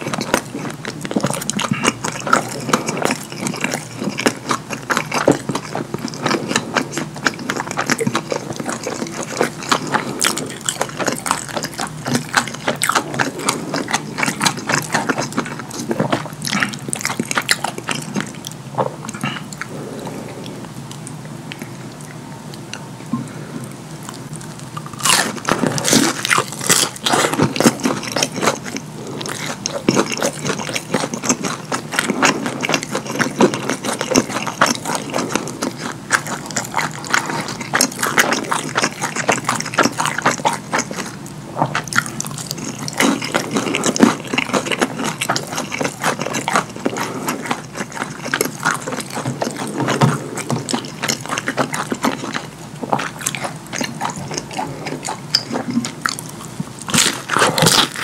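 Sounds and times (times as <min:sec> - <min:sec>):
wet chewing and lip-smacking: 0:00.0 - 0:58.0.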